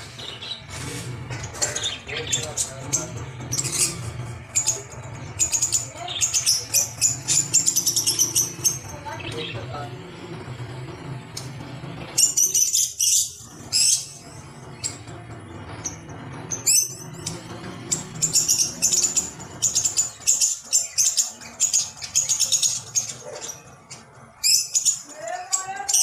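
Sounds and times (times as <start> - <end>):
steady low hum: 0.0 - 25.8
bird chirping: 0.0 - 26.0.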